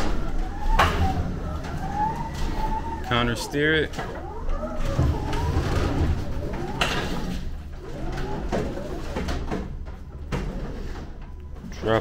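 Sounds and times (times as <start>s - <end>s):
electric pallet jack motor whine: 0.0s - 11.7s.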